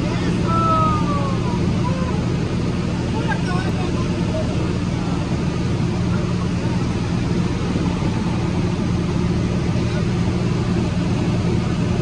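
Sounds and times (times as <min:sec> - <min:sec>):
light airplane engine and propeller: 0:00.0 - 0:12.0.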